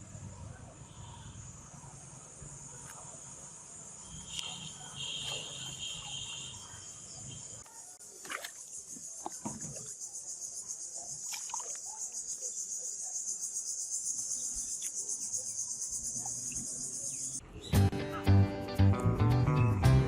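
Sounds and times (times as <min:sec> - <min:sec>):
insects trilling: 0:00.9 - 0:17.4.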